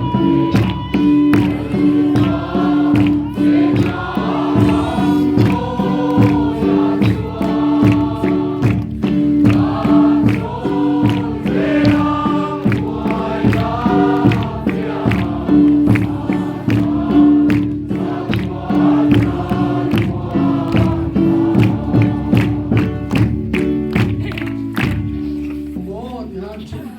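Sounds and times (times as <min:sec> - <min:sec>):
choir singing gospel song: 0:00.0 - 0:24.1
instrumental accompaniment with beat: 0:00.0 - 0:26.0.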